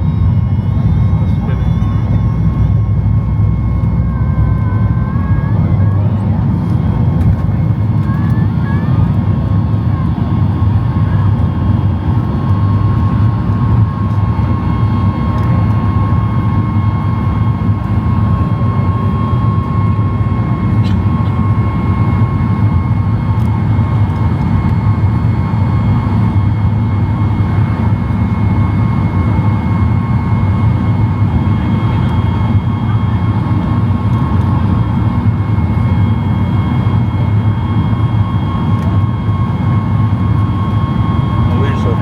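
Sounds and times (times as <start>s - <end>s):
thin steady whine: 0.0s - 20.7s, 24.6s - 42.0s
jet engine rumble: 0.0s - 42.0s.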